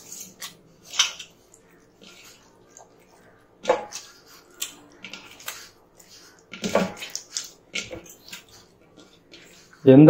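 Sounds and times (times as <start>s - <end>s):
tomato squelching by hand: 0.0s - 10.0s.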